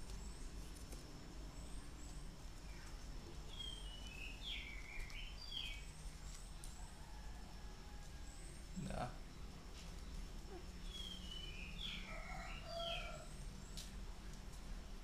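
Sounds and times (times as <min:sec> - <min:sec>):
faint bird chirps: 0:01.5 - 0:13.8.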